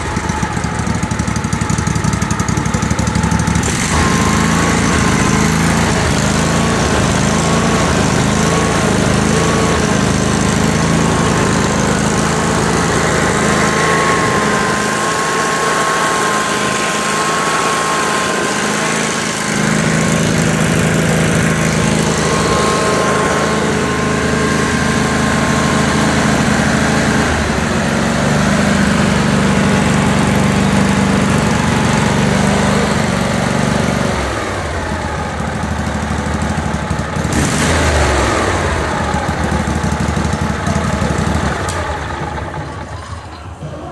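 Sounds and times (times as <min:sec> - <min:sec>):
engine running steadily: 0:00.0 - 0:43.9.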